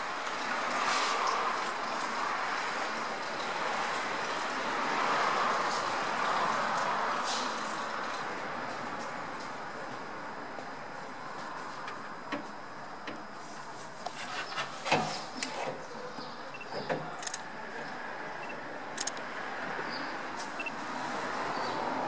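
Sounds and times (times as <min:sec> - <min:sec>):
workshop background noise: 0:00.0 - 0:22.0.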